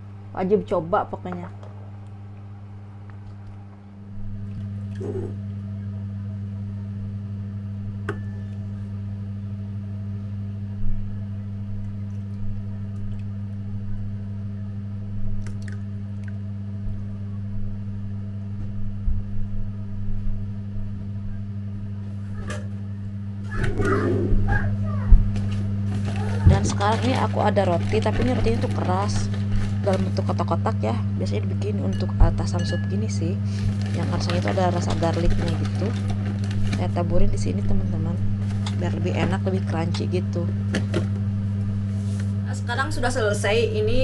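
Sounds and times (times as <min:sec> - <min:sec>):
appliance motor humming: 0:00.0 - 0:17.9, 0:18.6 - 0:44.0.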